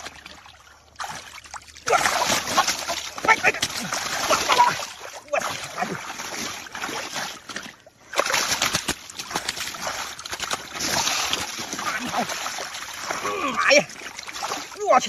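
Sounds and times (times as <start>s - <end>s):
splashing in muddy water: 0.0s - 15.0s.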